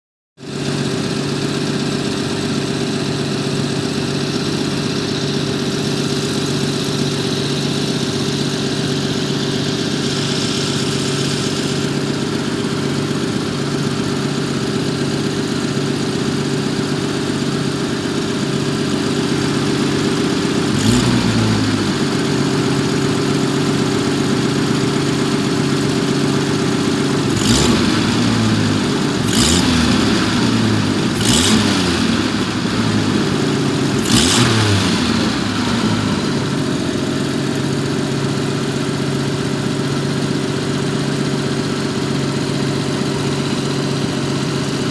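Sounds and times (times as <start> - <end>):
car engine idling: 0.5 - 44.9.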